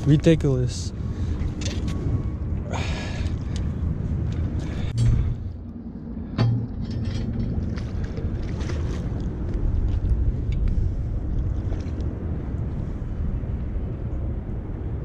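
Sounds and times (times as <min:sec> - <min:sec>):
steady low rumbling: 0:00.0 - 0:15.0.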